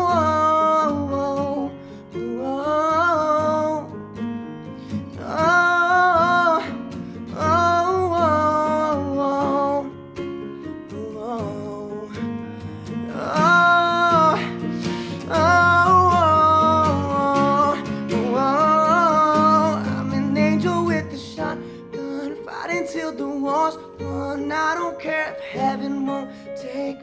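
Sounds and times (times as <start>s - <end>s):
man singing: 0.0s - 4.1s, 5.0s - 27.0s
digital piano: 0.0s - 27.0s
strummed acoustic guitar: 0.0s - 27.0s.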